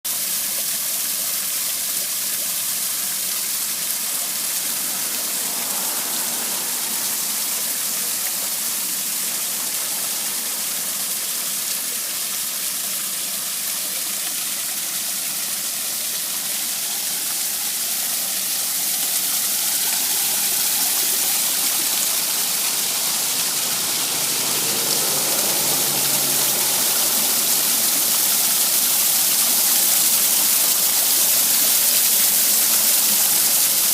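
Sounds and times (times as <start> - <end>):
waterfall splashing: 0.0 - 33.9.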